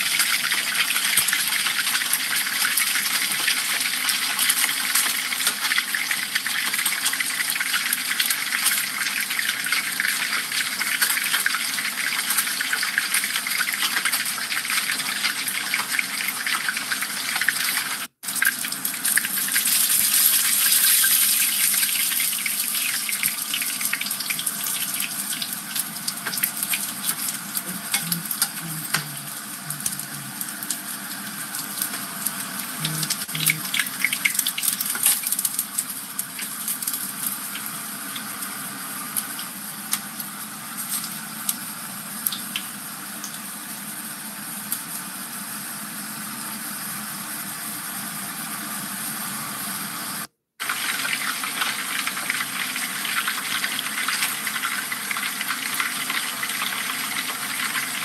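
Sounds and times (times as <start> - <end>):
fish deep-frying in hot oil: 0.0 - 58.0.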